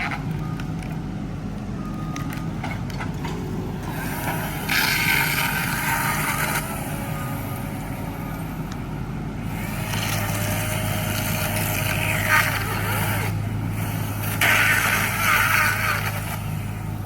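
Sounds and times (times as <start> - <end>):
harsh mechanical noise: 0.0 - 17.0
heavy machinery engine running: 0.0 - 17.0.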